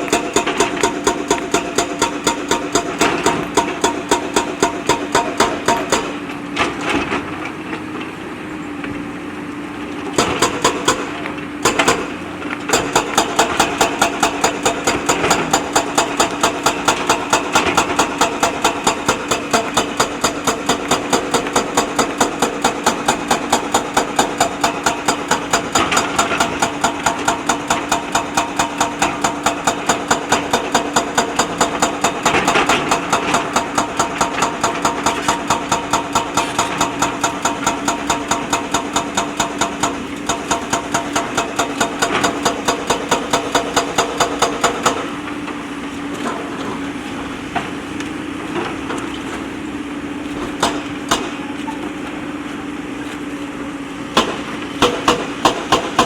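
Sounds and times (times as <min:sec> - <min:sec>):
diesel engine running with knock: 0:00.0 - 0:56.0.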